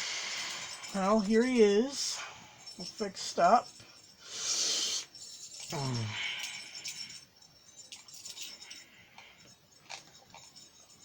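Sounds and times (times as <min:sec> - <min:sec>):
toy clicks and clinks: 0:00.0 - 0:11.0.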